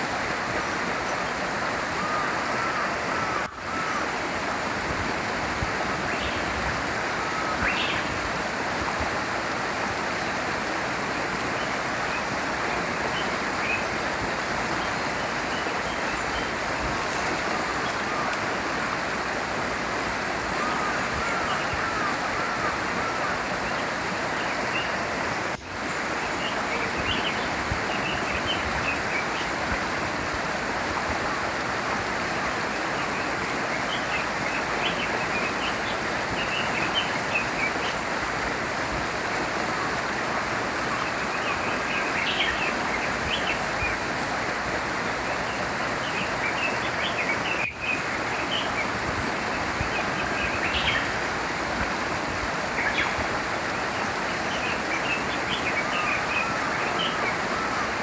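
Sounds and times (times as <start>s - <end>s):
small stream flowing: 0.0s - 58.0s.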